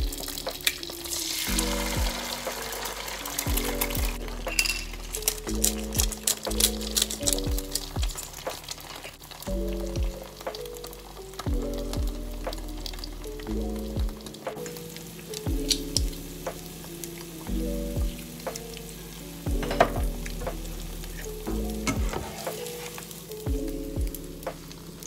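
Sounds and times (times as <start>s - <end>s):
background music: 0.0s - 25.0s
eggs sizzling in a pan: 0.0s - 25.0s.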